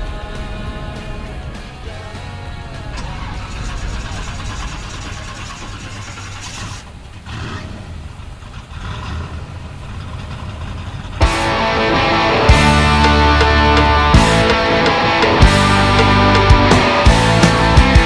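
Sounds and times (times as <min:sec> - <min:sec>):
car engine starting and running: 0:00.0 - 0:18.0.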